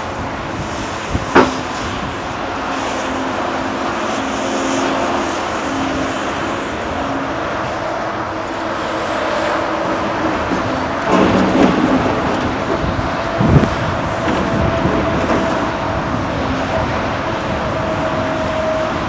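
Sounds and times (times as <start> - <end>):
excavator engine and hydraulics humming: 0.0 - 19.0
motorway traffic noise: 0.0 - 19.0.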